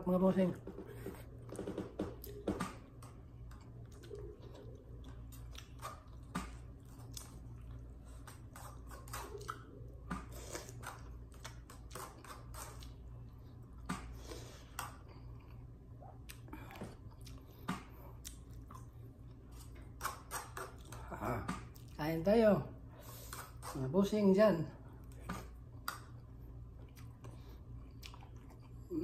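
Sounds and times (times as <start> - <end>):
low hum: 0.0 - 29.0
person chewing with mouth smacks: 1.0 - 22.0, 25.0 - 29.0.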